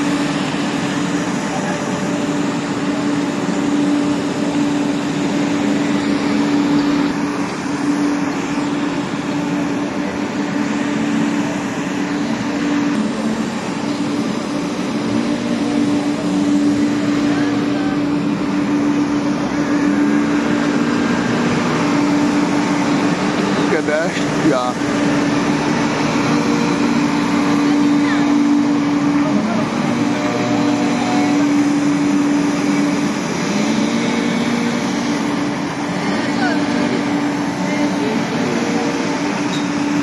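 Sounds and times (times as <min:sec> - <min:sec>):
street sweeper engine and fan drone: 0:00.0 - 0:40.0.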